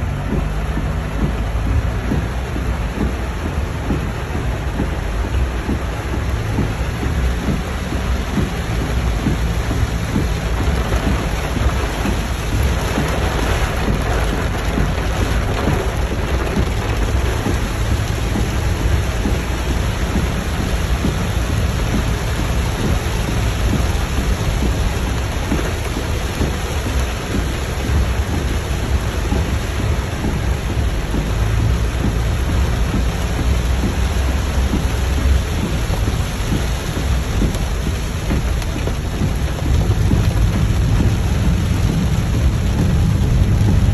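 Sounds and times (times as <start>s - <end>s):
car tyres rumbling on wet road: 0.0s - 43.9s
rain drumming on car roof: 0.0s - 43.9s.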